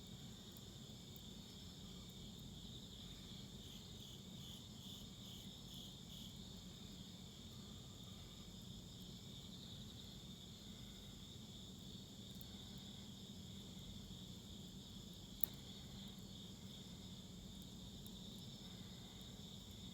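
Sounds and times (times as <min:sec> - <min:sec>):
crickets chirping: 0:00.0 - 0:19.9.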